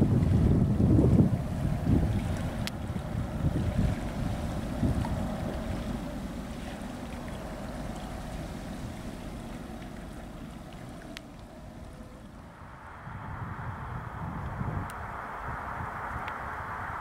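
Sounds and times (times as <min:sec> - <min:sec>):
faint steady drone: 0:00.0 - 0:17.0
wind buffeting microphone: 0:00.0 - 0:17.0.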